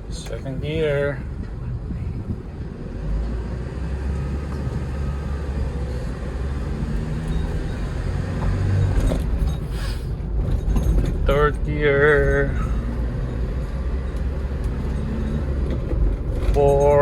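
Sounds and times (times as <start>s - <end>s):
diesel truck engine drone: 0.0s - 17.0s.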